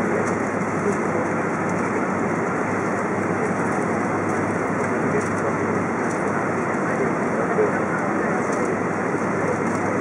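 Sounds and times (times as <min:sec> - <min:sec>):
aircraft cabin engine rush: 0:00.0 - 0:10.0.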